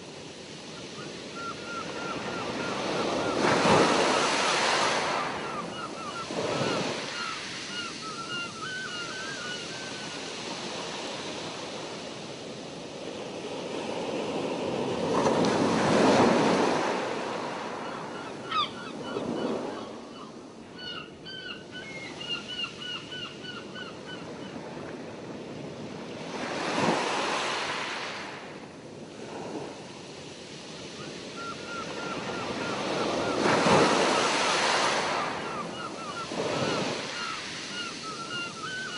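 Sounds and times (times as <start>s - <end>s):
ocean waves washing in: 0.0s - 18.5s, 24.6s - 38.9s.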